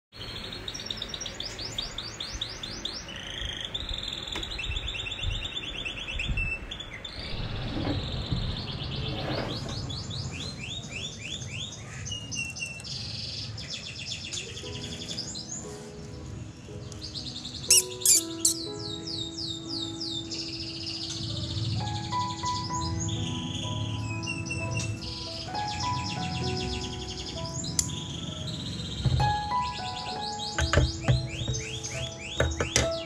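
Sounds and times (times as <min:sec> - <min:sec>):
canary singing fast trills: 0:00.2 - 0:09.1, 0:09.9 - 0:33.0.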